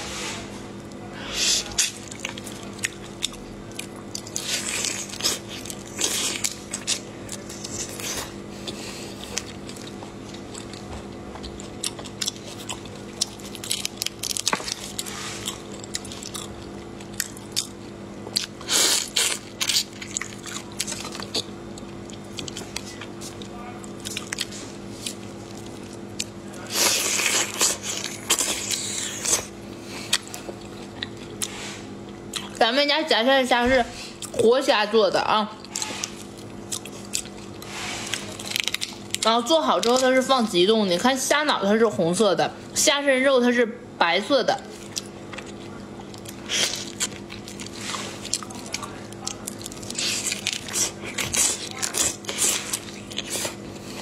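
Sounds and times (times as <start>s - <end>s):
wet chewing of raw shrimp: 1.6s - 32.6s, 35.6s - 40.0s, 44.7s - 54.0s.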